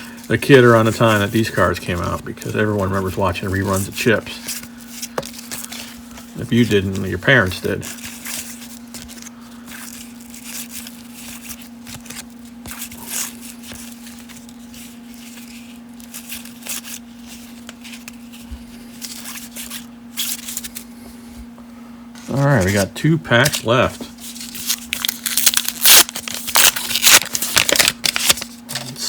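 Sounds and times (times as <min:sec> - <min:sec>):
cards and wrapper rustling: 0:00.0 - 0:20.9, 0:22.2 - 0:29.0
steady low hum: 0:00.0 - 0:29.0.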